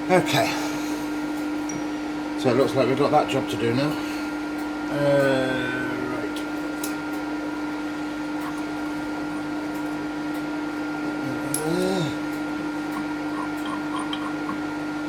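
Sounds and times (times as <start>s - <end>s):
workshop machine hum: 0.0s - 15.0s.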